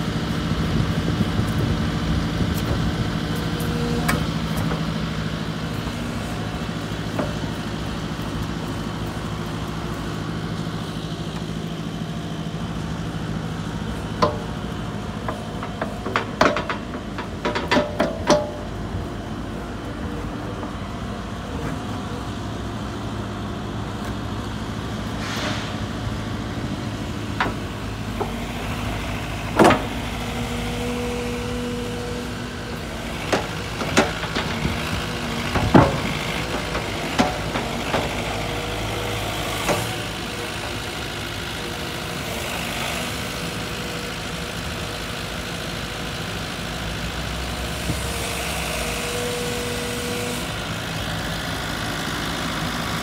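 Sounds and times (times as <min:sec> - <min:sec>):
excavator diesel engine idling: 0:00.0 - 0:53.0.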